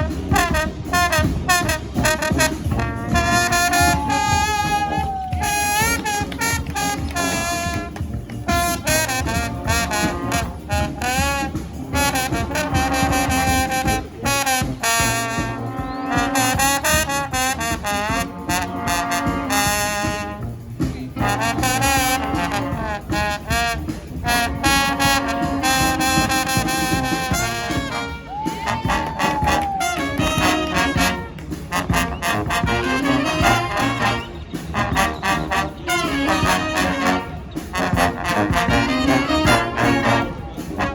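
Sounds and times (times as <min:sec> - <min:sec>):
brass band playing: 0:00.0 - 0:40.9
steady drum beat: 0:00.0 - 0:40.9.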